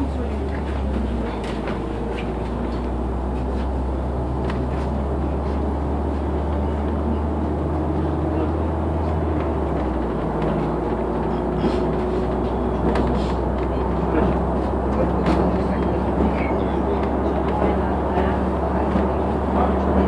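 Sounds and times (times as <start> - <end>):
bus engine hum and road noise: 0.0 - 20.0.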